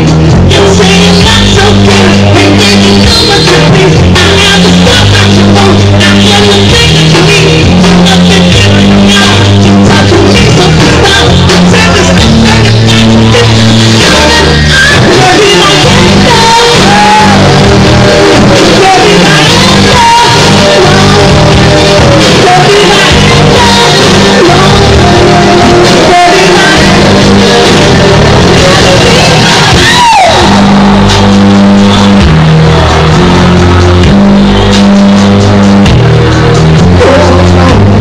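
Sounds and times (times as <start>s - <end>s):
man singing: 0.0s - 32.2s, 36.9s - 38.0s
live rock music: 0.0s - 38.0s
repeating bass line: 0.0s - 38.0s.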